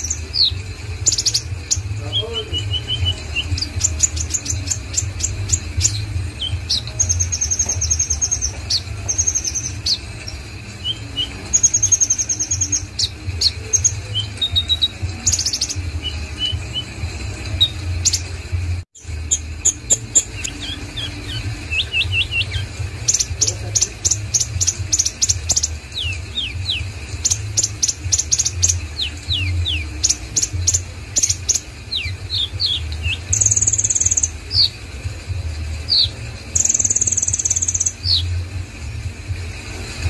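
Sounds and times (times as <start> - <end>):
sunbird chirping and whistling: 0.0 - 40.0.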